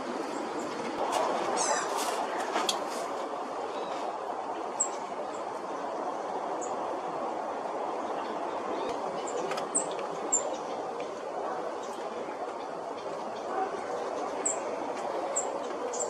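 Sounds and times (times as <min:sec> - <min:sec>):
wind through trees: 0:00.0 - 0:16.0.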